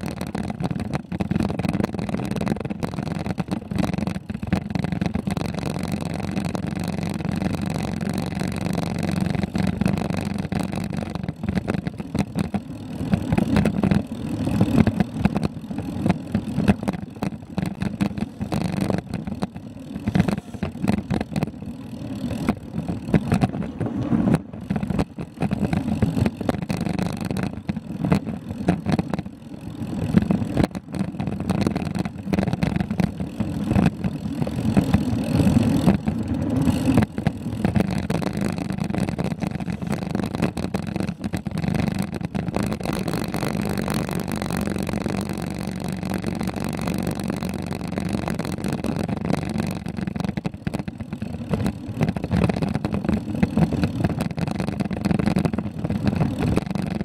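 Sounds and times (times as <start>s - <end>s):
bicycle tyres on gravel: 0.0s - 57.0s.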